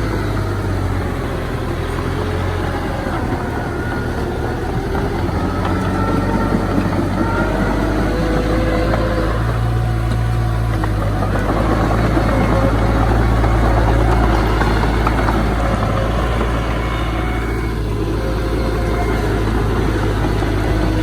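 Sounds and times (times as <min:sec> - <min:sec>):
diesel machinery engine drone: 0:00.0 - 0:21.0.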